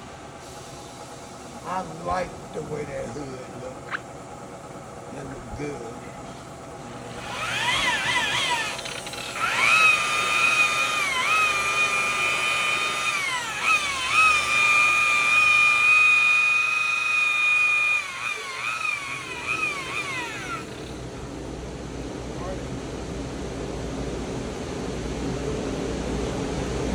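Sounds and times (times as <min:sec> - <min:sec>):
electric buffer motor whine: 0:00.0 - 0:22.6.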